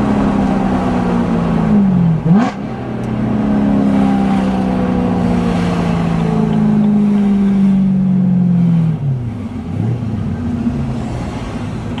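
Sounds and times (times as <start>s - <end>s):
car engine and exhaust pulling: 0.0s - 12.0s.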